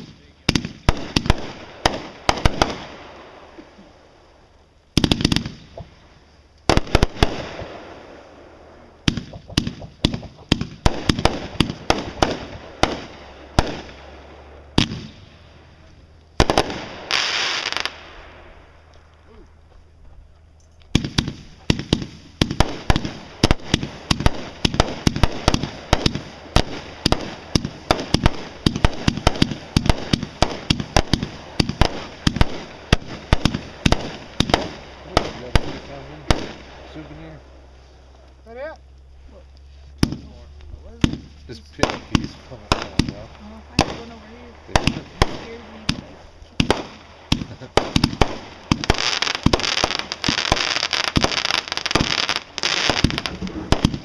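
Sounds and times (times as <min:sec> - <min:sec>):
firework hiss: 0:00.0 - 0:15.8, 0:16.4 - 0:18.8, 0:20.9 - 0:38.5, 0:39.1 - 0:54.0
fireworks bangs and crackling: 0:00.0 - 0:18.9, 0:20.9 - 0:54.0.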